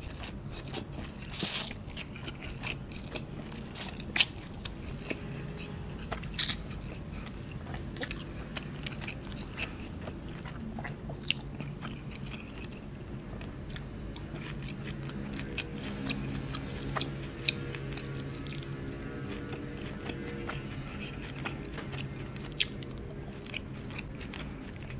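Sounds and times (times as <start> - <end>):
person chewing noodles: 0.0 - 24.9.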